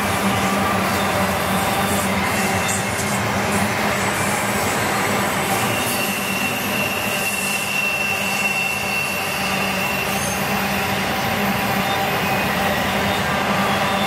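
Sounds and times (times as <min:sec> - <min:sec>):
train wheels rumbling on rails: 0:00.0 - 0:14.0
high wheel squeal: 0:00.1 - 0:14.0.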